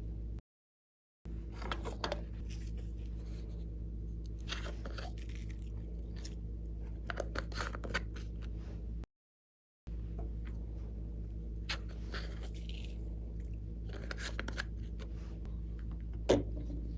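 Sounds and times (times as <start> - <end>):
steady low hum: 0.0 - 0.4, 1.3 - 9.1, 9.9 - 16.9.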